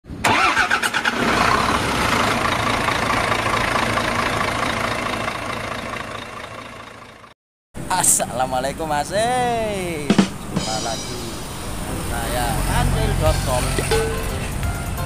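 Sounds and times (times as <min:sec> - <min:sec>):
vehicle engine running: 0:01.0 - 0:08.9, 0:09.5 - 0:15.0.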